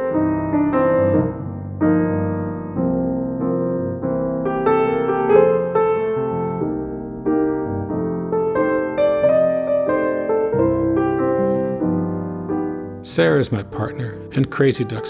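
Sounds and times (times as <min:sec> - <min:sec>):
electric piano chords: 0:00.0 - 0:15.0
soft piano music: 0:00.0 - 0:15.0.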